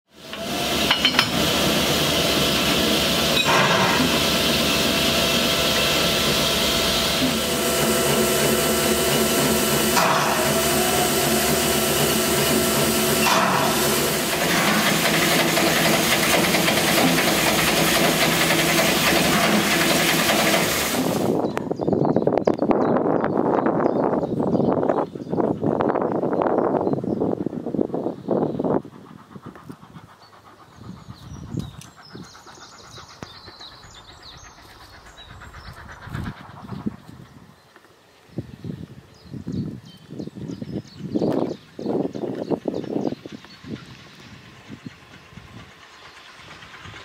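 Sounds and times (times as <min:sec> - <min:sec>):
steam locomotive hissing steam: 0:00.1 - 0:22.0, 0:23.6 - 0:47.0.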